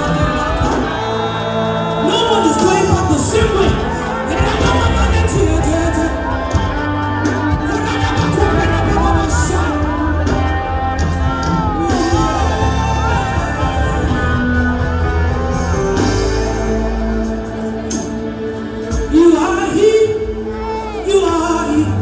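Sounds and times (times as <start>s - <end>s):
person singing: 0.0s - 22.0s
worship band playing: 0.0s - 22.0s.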